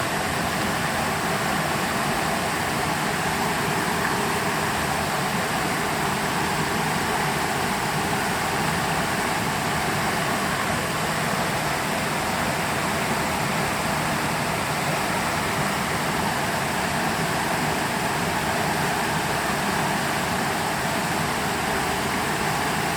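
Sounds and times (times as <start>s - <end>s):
creek water rushing over rocks: 0.0s - 22.9s.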